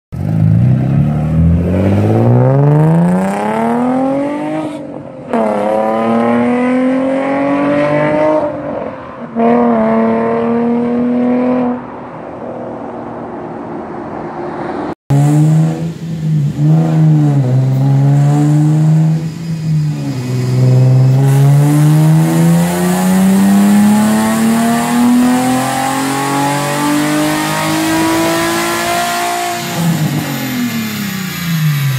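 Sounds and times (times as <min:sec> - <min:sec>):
car engine accelerating: 0:00.1 - 0:31.9
car engine revving on a dyno: 0:00.2 - 0:12.0, 0:15.1 - 0:31.9.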